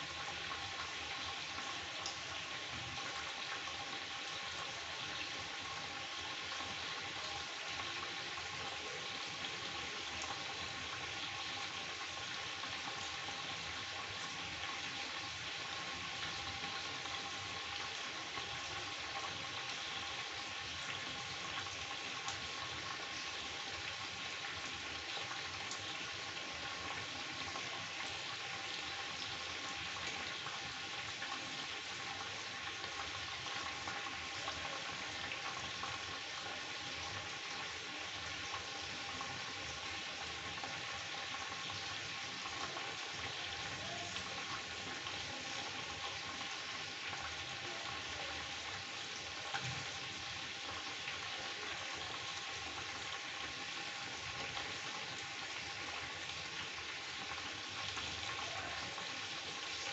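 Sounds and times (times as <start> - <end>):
chicken sizzling in a pan: 0.0 - 59.9.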